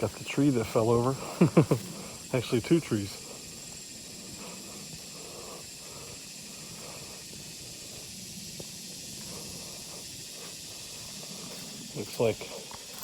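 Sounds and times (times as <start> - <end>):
footsteps on woodland trail: 0.0 - 13.0
high-pitched insect drone: 0.0 - 13.0.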